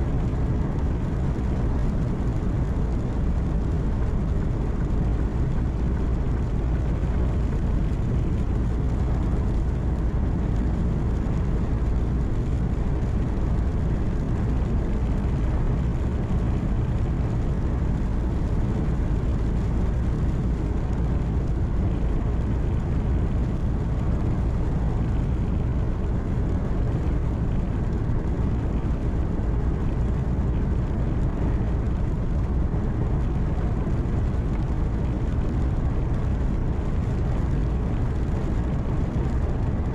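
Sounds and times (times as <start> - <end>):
road noise: 0.0 - 39.9
truck engine rumble: 0.0 - 39.9.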